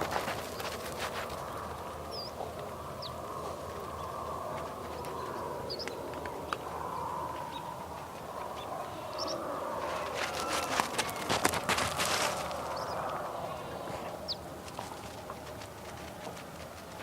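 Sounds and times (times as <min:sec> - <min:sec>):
distant livestock: 0:00.0 - 0:17.0.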